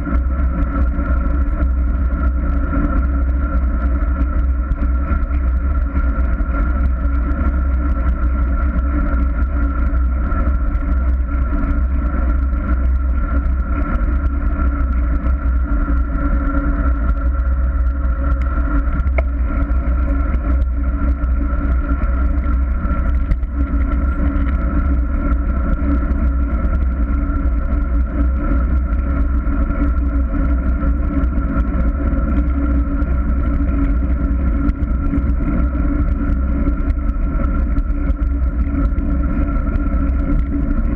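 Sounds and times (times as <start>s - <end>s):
constant hum: 0.0s - 40.9s.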